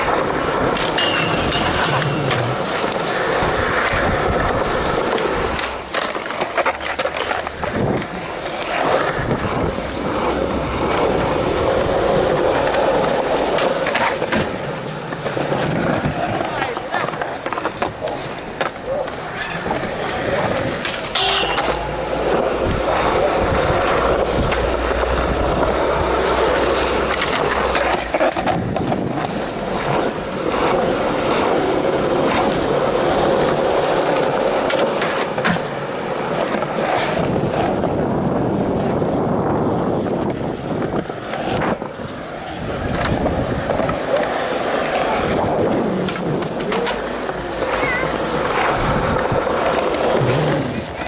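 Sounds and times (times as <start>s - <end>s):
skateboard clacking on ground: 0.0s - 51.0s
skateboard wheels rolling on concrete: 0.0s - 51.0s.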